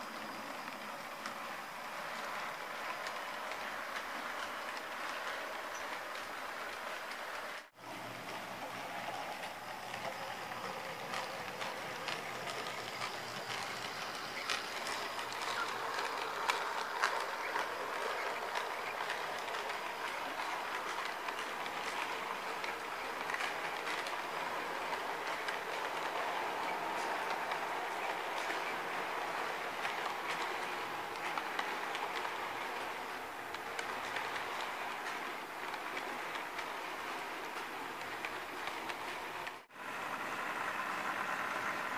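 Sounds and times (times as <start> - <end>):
model train rolling: 0.0 - 41.9
wheels clicking on track: 0.0 - 41.9.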